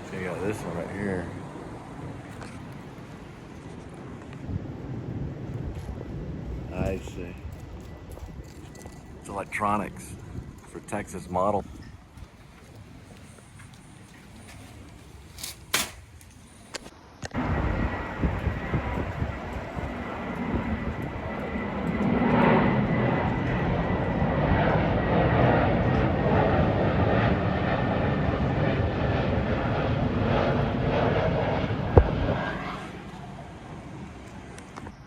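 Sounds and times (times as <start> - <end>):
airplane engine passing by: 0.0 - 35.0.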